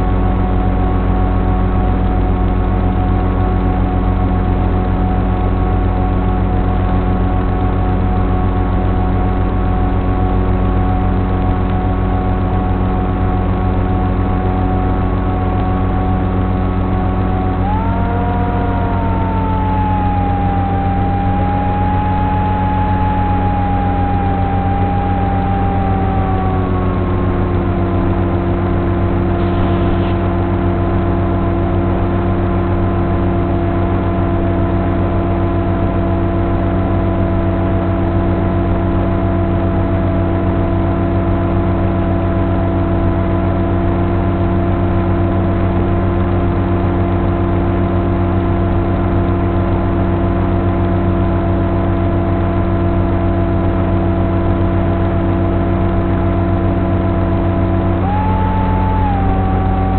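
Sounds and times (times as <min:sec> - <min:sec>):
electric motor and propeller drone: 0:00.0 - 0:44.8, 0:47.6 - 0:59.9.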